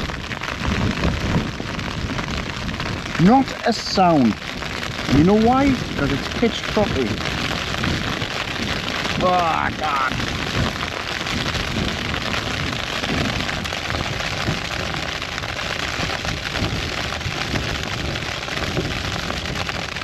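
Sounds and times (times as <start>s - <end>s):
rain pattering on tent: 0.0s - 20.0s
wind gusting against tent: 0.0s - 20.0s.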